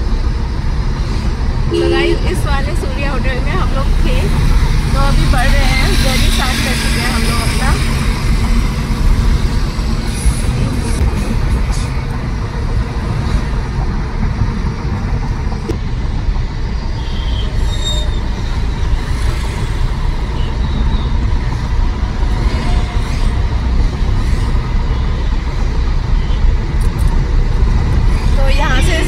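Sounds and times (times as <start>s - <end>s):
car engine: 0.0s - 29.0s
road and tyre noise: 0.0s - 29.0s.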